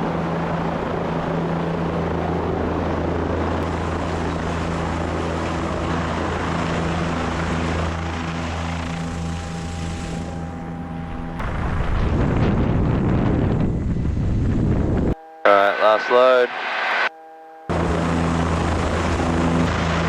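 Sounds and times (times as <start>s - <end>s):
helicopter rotor hum: 0.0s - 20.0s
steady humming tones: 0.0s - 20.0s.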